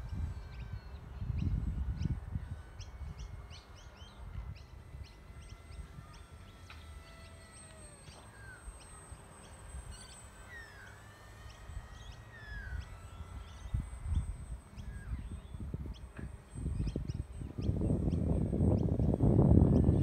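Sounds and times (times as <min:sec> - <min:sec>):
wind rumble on microphone: 0:00.0 - 0:07.9, 0:11.6 - 0:20.0
birds chirping and whistling: 0:00.0 - 0:20.0.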